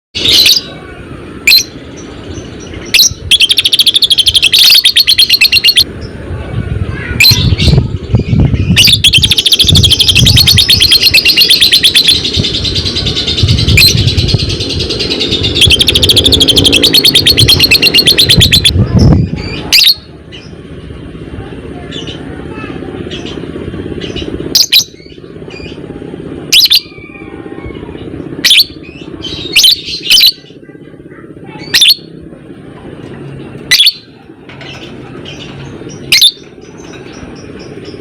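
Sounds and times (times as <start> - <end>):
lovebird rapid high-pitched chatter: 0.2 - 0.8, 1.4 - 6.1, 7.0 - 20.5, 21.8 - 32.2, 33.6 - 38.0.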